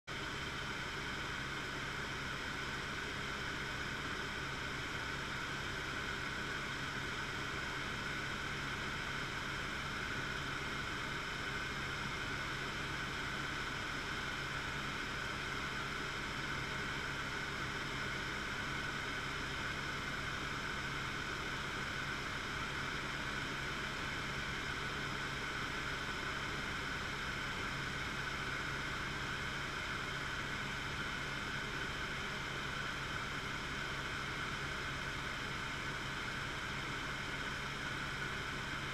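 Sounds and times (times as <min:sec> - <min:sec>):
helicopter cockpit drone: 0:00.1 - 0:38.9.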